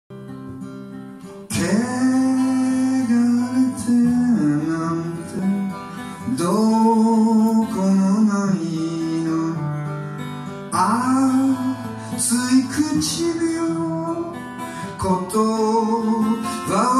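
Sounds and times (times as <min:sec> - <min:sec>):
strummed acoustic guitar: 0:00.1 - 0:16.9
man singing: 0:01.5 - 0:16.9.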